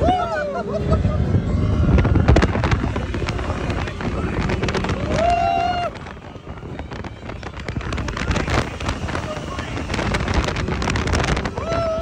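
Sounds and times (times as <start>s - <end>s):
ride vehicle rumbling on track: 0.0s - 12.0s
wind buffeting microphone: 0.0s - 12.0s.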